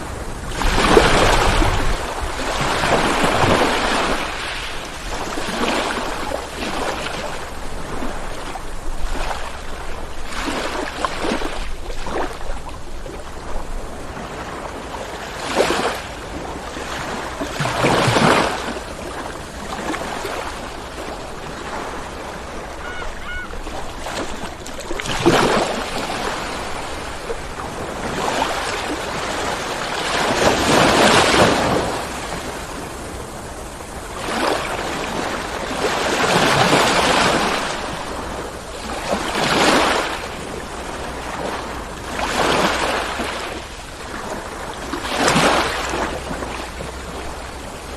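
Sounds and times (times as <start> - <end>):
ocean waves washing on shore: 0.0 - 47.9.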